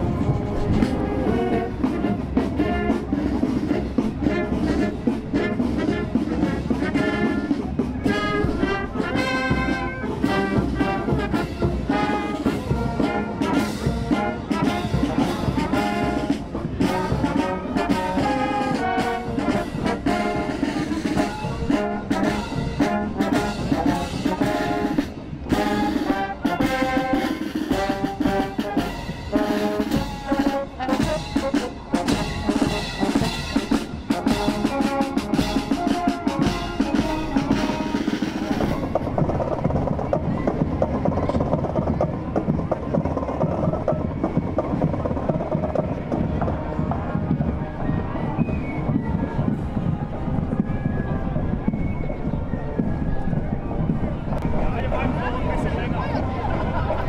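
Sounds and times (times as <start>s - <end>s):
marching brass band playing: 0.0s - 57.0s.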